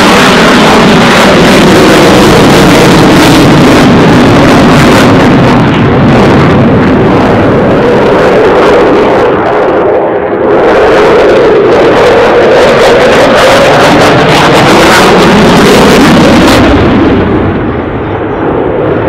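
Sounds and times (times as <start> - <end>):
loud jet engine noise: 0.0 - 19.0.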